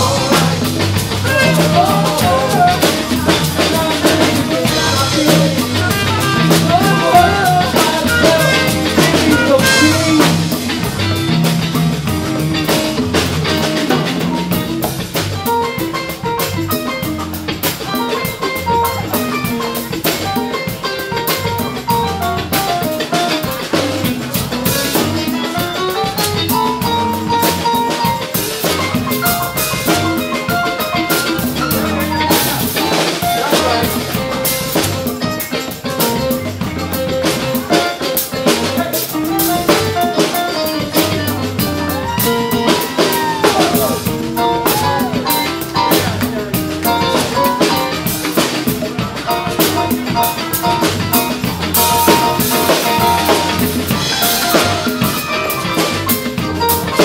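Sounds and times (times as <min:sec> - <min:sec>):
drum kit beat: 0:00.0 - 0:57.0
live band playing: 0:00.0 - 0:57.0.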